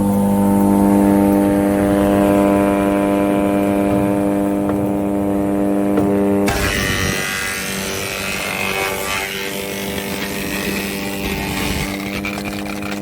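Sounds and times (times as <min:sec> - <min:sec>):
wood shredder humming: 0:00.0 - 0:13.0
wood being ground: 0:02.0 - 0:13.0.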